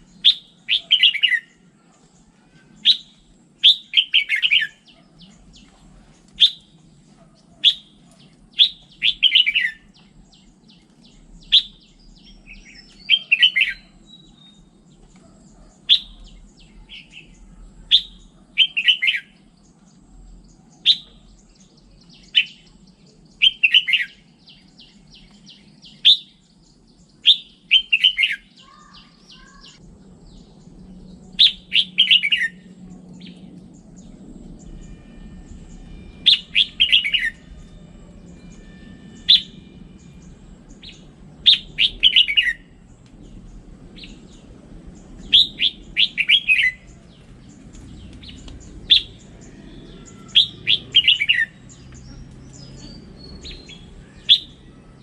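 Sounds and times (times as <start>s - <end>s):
soft bird chirps: 0.0s - 54.9s.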